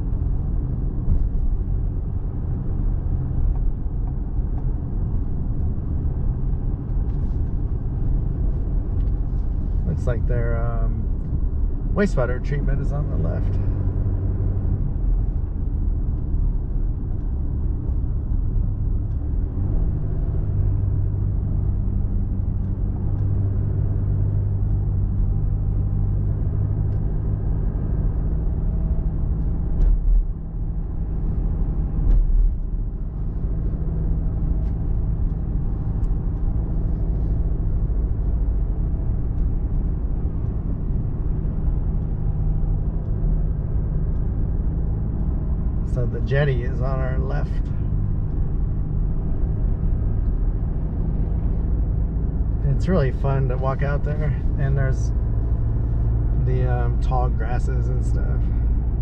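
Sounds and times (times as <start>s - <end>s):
truck engine hum: 0.0s - 59.0s
tyre and road rumble: 0.0s - 59.0s.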